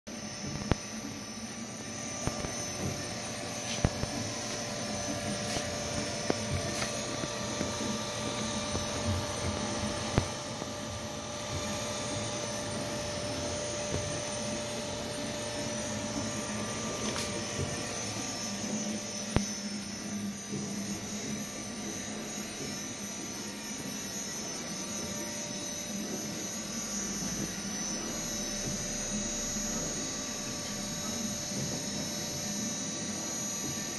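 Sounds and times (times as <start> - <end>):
electrical humming with high tones: 0.1 - 33.9.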